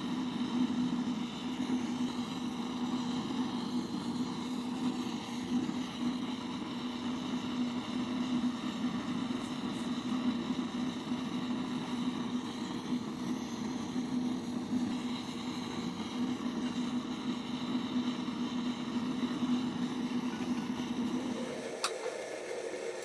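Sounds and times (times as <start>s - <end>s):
gas burner flame rushing: 0.0s - 23.0s.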